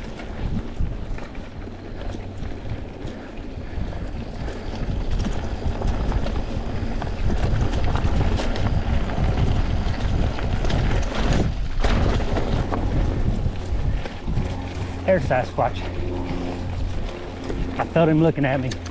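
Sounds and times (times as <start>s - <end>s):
bike rattles and clicks: 0.0s - 18.9s
tyres rumbling on dirt trail: 0.0s - 18.9s
wind buffeting microphone: 0.0s - 18.9s.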